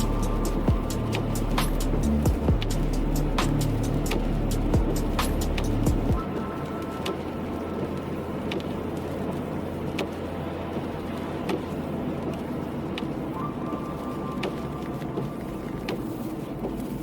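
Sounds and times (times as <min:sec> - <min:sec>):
car driving on wet road: 0:00.0 - 0:17.0.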